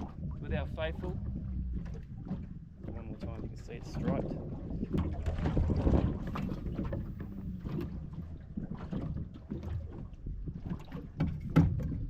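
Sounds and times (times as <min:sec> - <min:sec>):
steady low rumble of boat: 0:00.0 - 0:12.0
wind buffeting microphone: 0:00.0 - 0:12.0.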